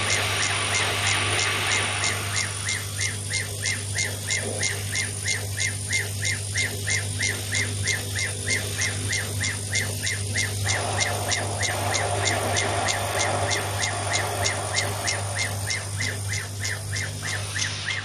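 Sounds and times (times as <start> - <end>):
high chirps: 0.0 - 18.0
laser marking machine hum: 0.0 - 18.0.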